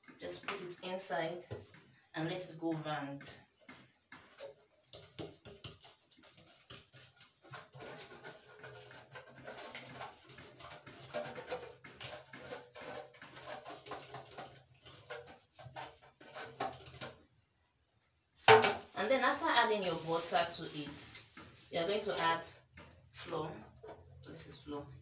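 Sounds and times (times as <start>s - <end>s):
rubbing metal cake pan: 0.0s - 17.2s, 18.7s - 24.5s.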